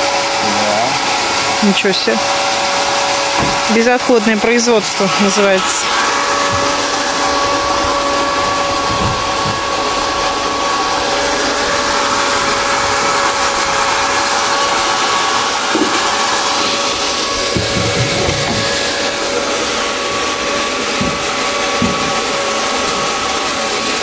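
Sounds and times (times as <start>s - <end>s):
small motor running: 0.0s - 24.0s.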